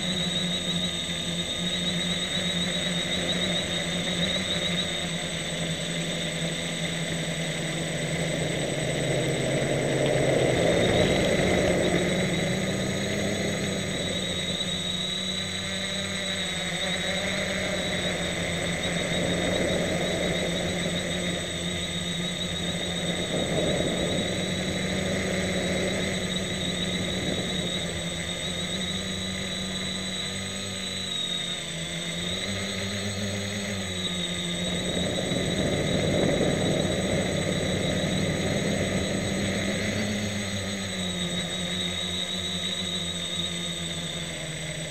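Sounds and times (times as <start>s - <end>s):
quadcopter motors whirring: 0.0s - 44.9s.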